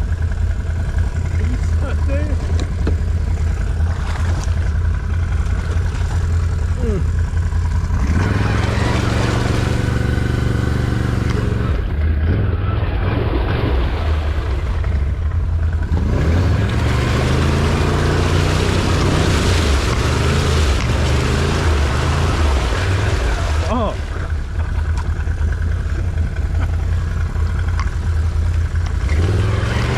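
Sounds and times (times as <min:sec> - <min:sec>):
off-road vehicle engine revving: 0:00.0 - 0:29.9.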